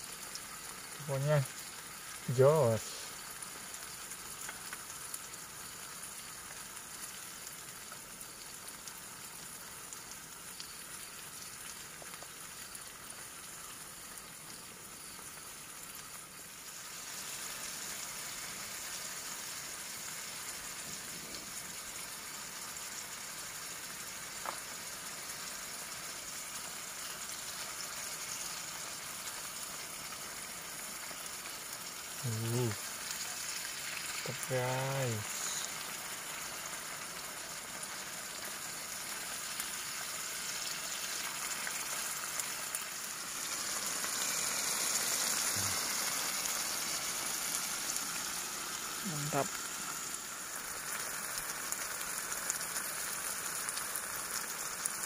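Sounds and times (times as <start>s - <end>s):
food sizzling in pot: 0.0s - 55.0s.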